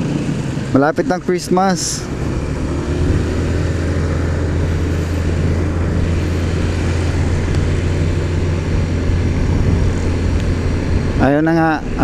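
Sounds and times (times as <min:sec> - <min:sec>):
motorcycle engine humming: 0:00.0 - 0:12.0
road and wind noise: 0:00.0 - 0:12.0.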